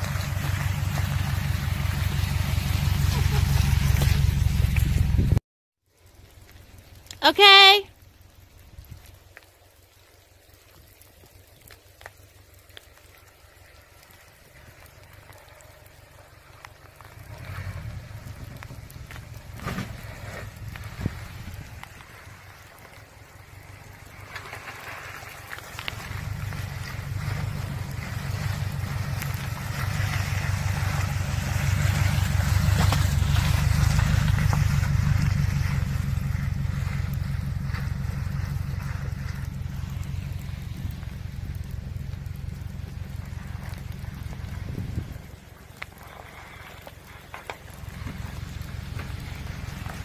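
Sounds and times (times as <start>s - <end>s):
engine and drivetrain rumble: 0.0s - 50.0s.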